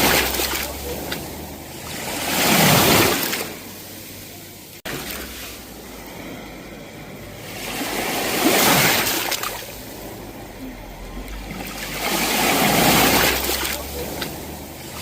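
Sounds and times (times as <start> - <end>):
waves crashing on shore: 0.0 - 15.0.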